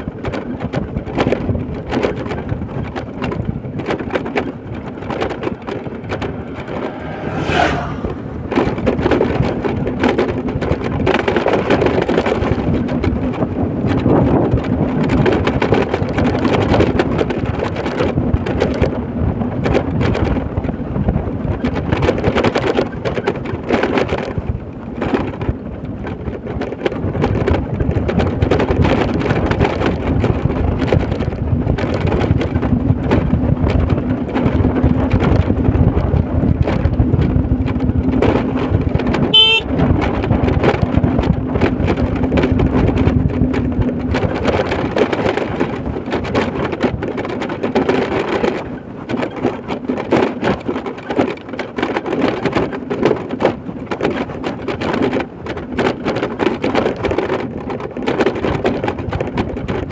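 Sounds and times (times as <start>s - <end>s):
vehicle road and engine noise: 0.0s - 59.9s
wind buffeting microphone: 0.0s - 59.9s.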